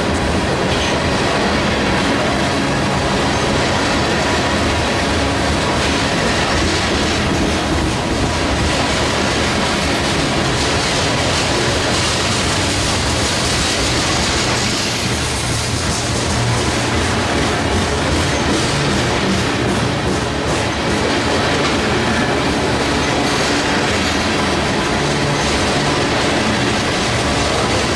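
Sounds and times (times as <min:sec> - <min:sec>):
train wheels on rails: 0:00.0 - 0:27.9.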